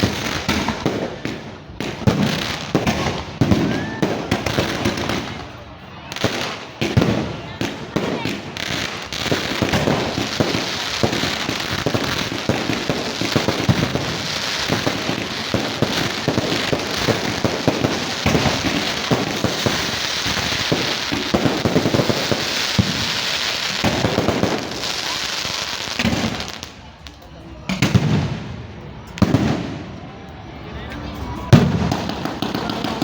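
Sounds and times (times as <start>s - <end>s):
fireworks cracking and popping: 0.0s - 29.9s, 31.5s - 33.0s.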